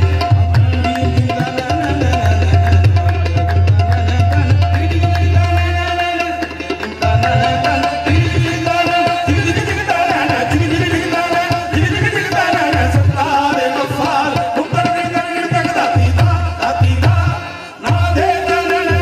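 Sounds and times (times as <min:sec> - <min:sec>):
harmonium playing: 0:00.0 - 0:19.0
tabla strokes: 0:00.0 - 0:19.0.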